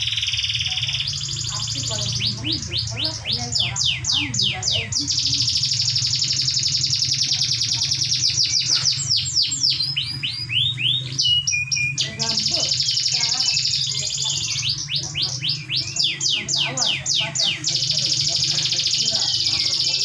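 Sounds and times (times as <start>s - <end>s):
canary singing trills: 0.0s - 20.0s
steady low hum: 0.0s - 20.0s.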